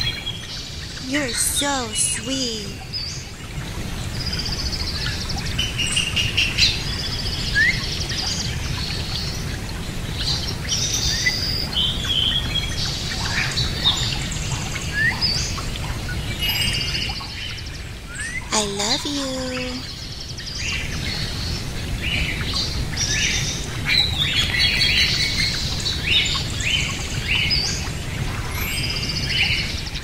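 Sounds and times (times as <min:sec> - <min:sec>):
birds chirping and twittering: 0:00.0 - 0:30.0.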